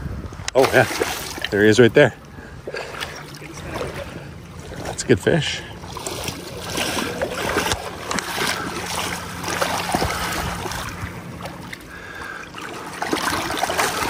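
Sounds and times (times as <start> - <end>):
shallow river water flowing: 0.0 - 14.0
small water splashes: 0.4 - 14.0.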